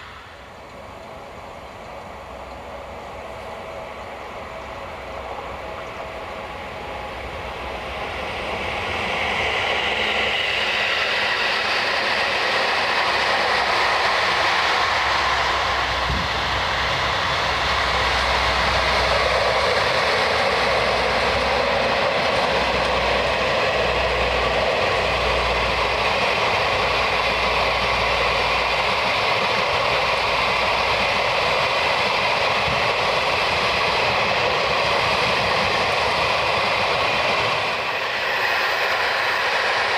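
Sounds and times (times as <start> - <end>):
train rumble and rail noise: 0.0 - 39.9.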